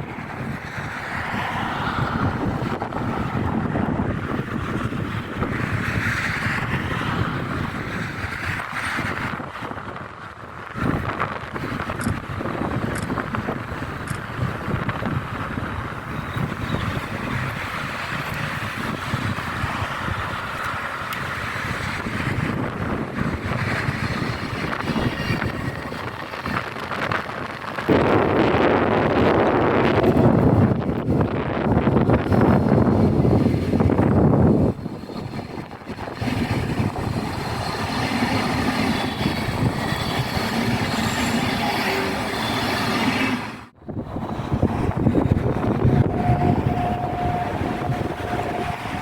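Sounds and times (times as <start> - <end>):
train passing: 0.0 - 49.0
wind buffeting microphone: 0.0 - 49.0.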